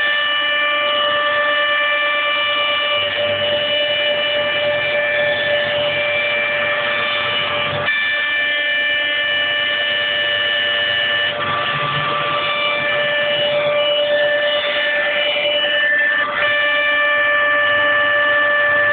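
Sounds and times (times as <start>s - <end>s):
mill spindle whining: 0.0s - 18.9s.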